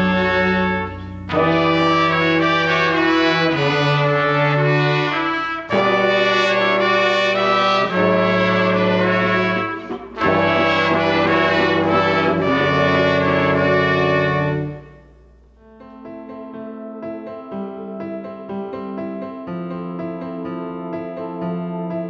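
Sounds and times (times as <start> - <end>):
brass instrumental music: 0.0 - 18.8.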